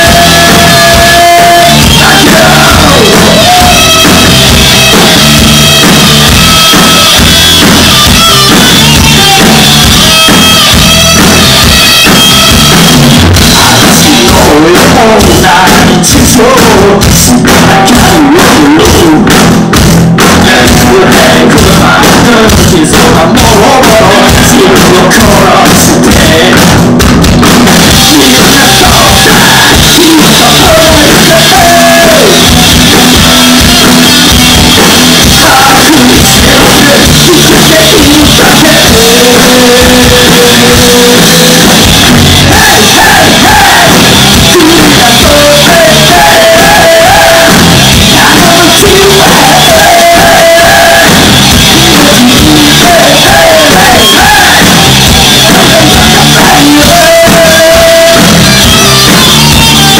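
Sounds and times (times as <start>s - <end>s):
man singing and shouting: 0.0s - 27.0s, 27.8s - 59.9s
live rock band playing: 0.0s - 59.9s.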